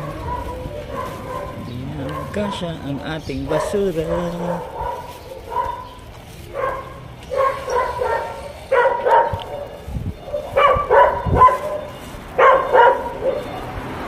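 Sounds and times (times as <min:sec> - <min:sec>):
small dog barking and yipping: 0:00.0 - 0:13.8.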